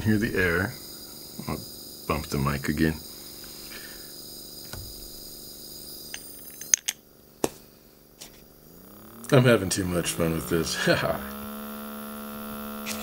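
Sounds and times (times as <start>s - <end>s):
air pump humming and hissing: 0.0s - 13.0s.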